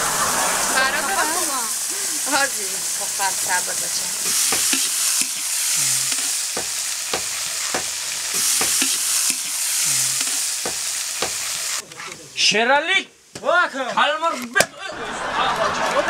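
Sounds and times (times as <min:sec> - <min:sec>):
carrots sizzling in hot oil: 0:00.0 - 0:14.7.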